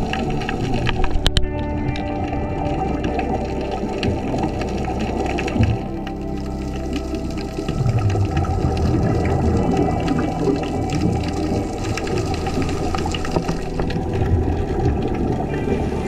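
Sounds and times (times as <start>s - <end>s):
regulator bubbling: 0.0s - 16.0s
underwater low rumble: 0.0s - 16.0s.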